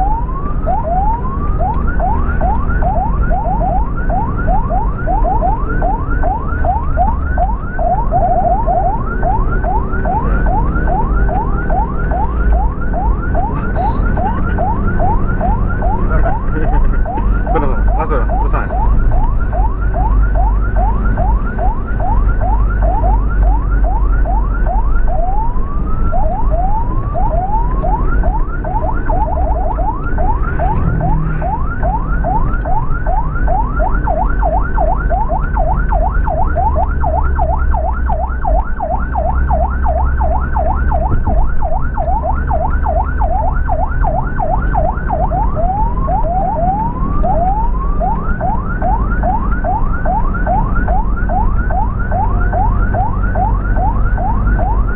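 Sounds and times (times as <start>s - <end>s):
ambulance siren yelping: 0.0s - 54.9s
vehicle engine and road rumble: 0.0s - 54.9s.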